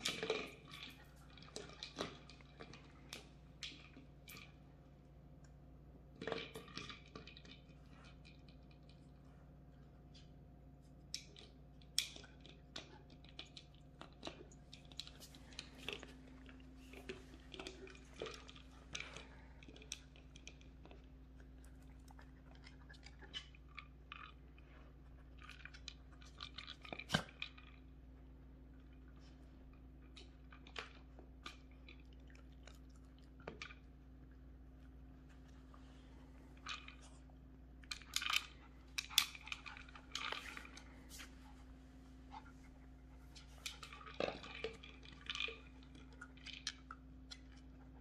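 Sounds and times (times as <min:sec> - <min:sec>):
puppies chewing dry treats: 0:00.0 - 0:04.9, 0:06.1 - 0:09.2, 0:09.8 - 0:48.0.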